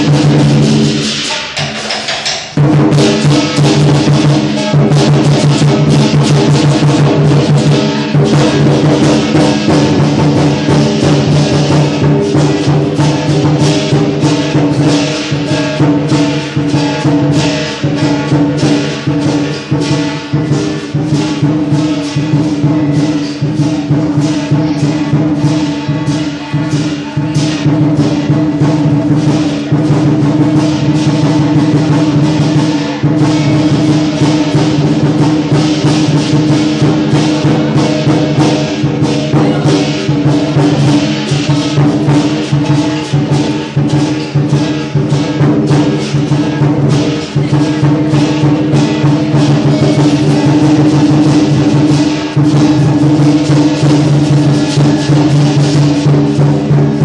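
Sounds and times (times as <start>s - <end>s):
big drum beaten fast: 0.0s - 57.0s
cymbals clashing: 0.0s - 57.0s.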